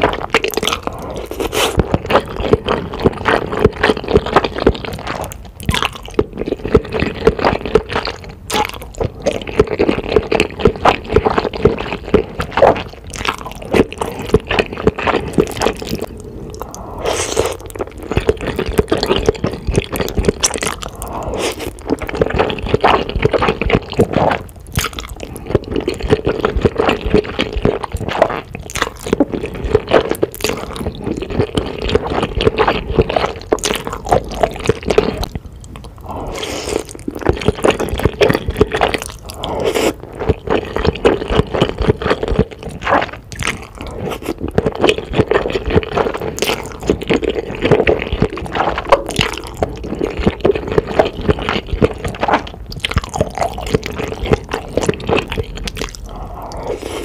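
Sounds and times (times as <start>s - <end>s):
slurping and chewing noodles: 0.0s - 57.0s.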